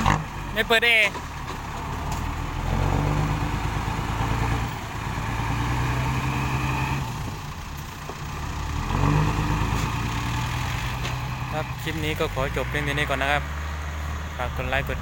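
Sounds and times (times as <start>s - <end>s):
dump truck engine revving: 0.0s - 15.0s.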